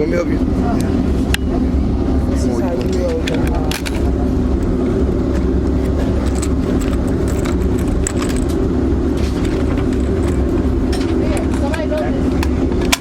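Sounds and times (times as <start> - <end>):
loud low hum: 0.0 - 13.0.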